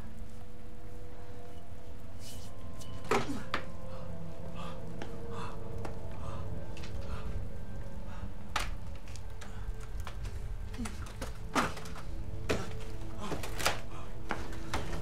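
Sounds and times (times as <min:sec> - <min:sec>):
low droning hum: 0:00.0 - 0:15.0.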